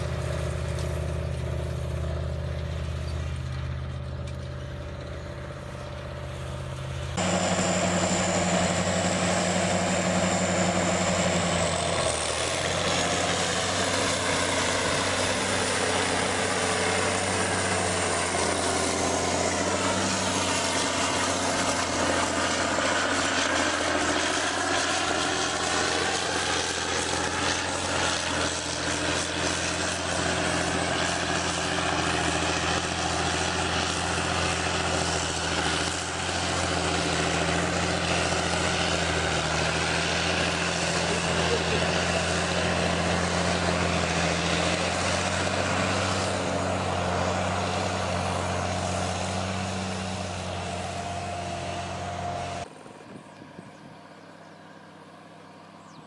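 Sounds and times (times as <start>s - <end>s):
tractor engines working under load: 0.0s - 56.0s.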